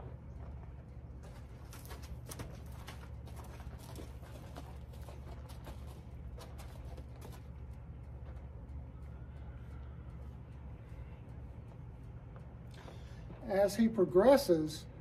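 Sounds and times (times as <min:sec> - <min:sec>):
footsteps on sandy dirt: 0:00.0 - 0:14.3.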